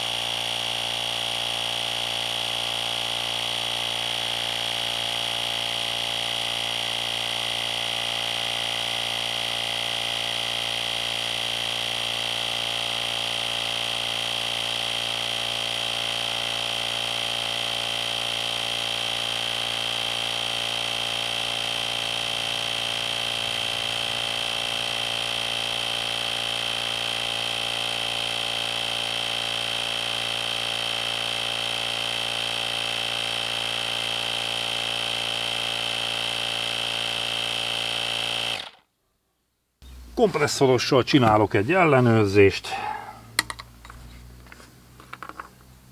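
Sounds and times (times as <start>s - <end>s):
tyre inflator whining: 0.0s - 38.9s, 42.4s - 45.5s.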